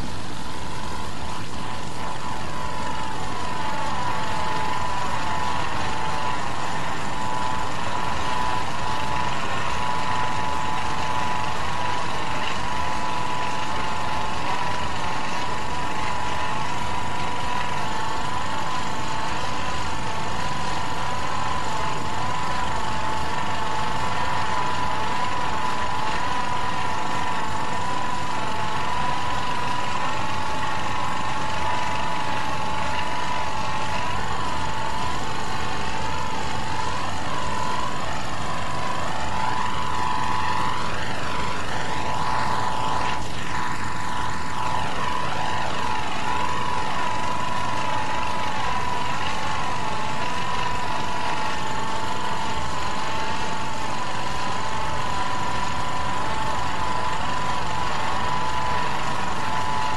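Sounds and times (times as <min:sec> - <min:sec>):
constant high hum: 0:00.0 - 0:59.9
furnace roaring: 0:00.0 - 0:59.9.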